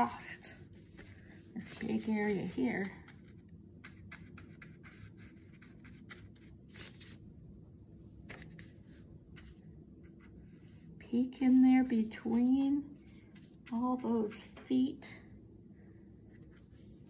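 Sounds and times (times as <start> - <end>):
paintbrush swishing on paper: 0.0 - 7.2, 8.3 - 14.6, 16.3 - 17.0.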